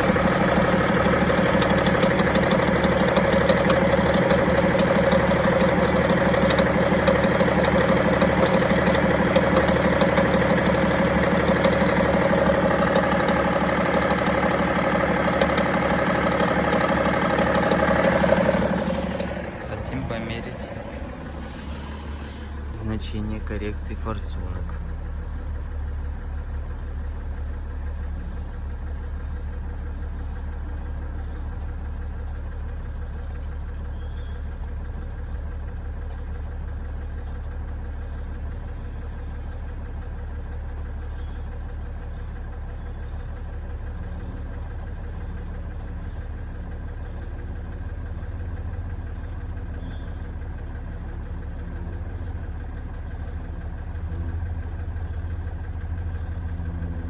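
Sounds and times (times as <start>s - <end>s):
diesel engine idling: 0.0s - 57.0s
engine knock: 0.0s - 57.0s.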